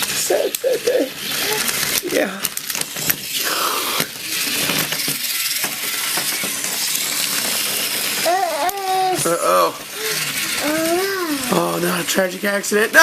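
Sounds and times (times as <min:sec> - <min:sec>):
toy train gearbox whirring: 0:00.0 - 0:13.0.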